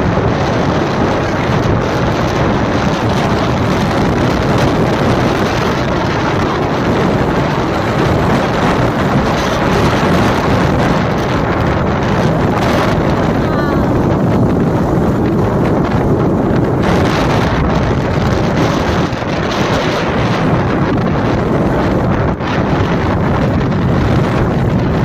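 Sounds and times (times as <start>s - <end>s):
car road noise: 0.0s - 25.0s
wind on microphone: 0.0s - 25.0s.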